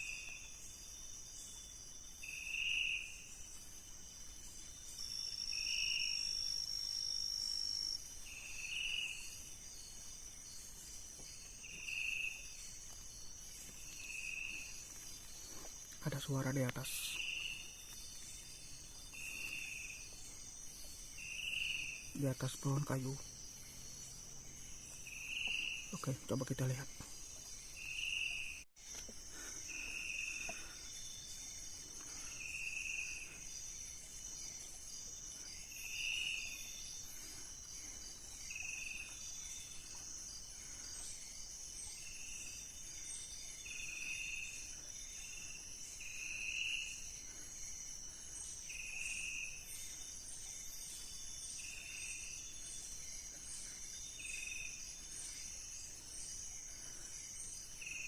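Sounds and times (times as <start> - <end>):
insect high-pitched drone: 0.0 - 58.0
short insect call: 0.0 - 58.0.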